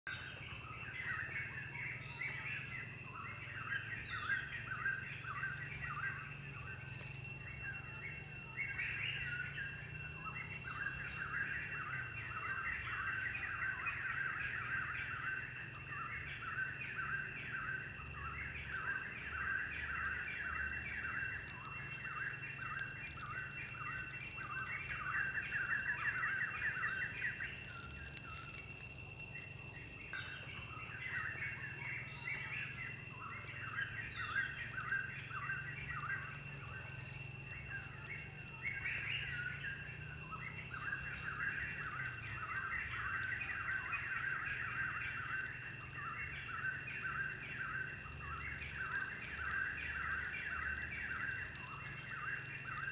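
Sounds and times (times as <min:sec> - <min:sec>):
high-pitched insect tones: 0:00.1 - 0:52.9.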